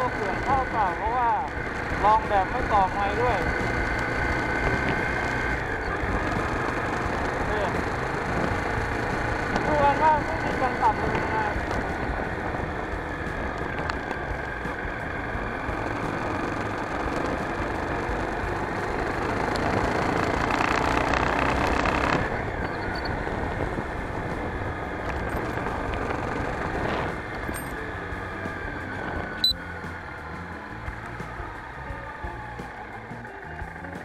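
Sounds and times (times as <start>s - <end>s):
motorbike engine running: 0.0s - 34.0s
wind and road noise: 0.0s - 34.0s.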